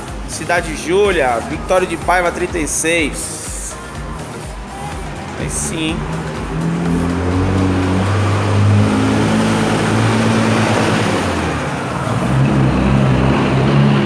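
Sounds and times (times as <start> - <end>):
car engine revving: 0.0 - 14.0
road noise: 0.0 - 14.0.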